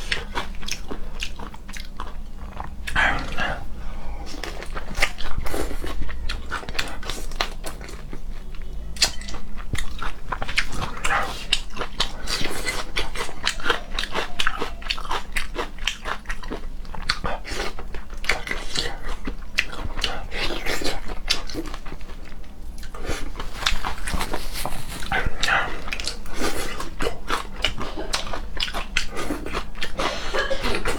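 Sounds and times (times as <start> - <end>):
wet chewing and lip-smacking: 0.0 - 30.9.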